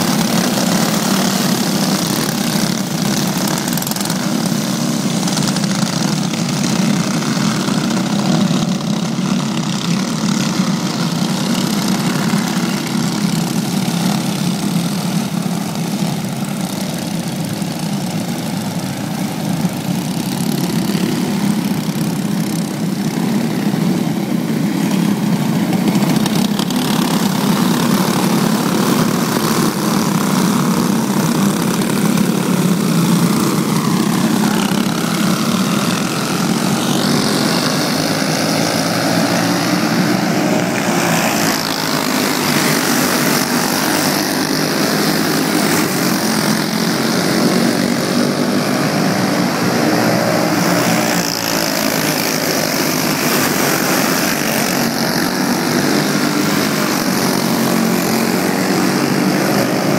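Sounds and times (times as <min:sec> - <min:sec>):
racing kart engines: 0:00.0 - 0:59.9.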